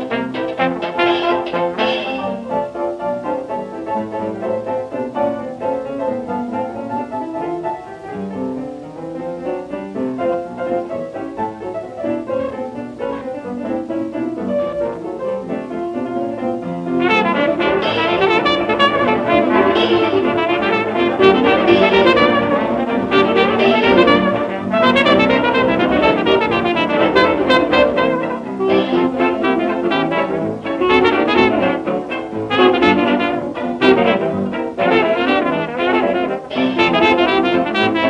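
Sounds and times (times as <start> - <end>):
jazz band with brass and piano: 0.0 - 38.0.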